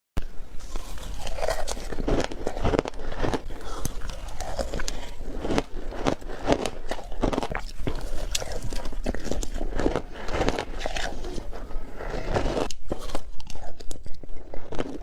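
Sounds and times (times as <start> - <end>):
chewing: 0.6 - 15.0
ice crunching between teeth: 0.6 - 15.0.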